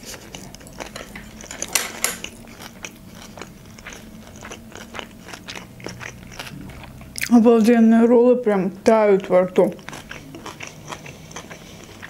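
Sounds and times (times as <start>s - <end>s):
chewing with soft crunches: 0.0s - 7.4s, 8.8s - 12.0s.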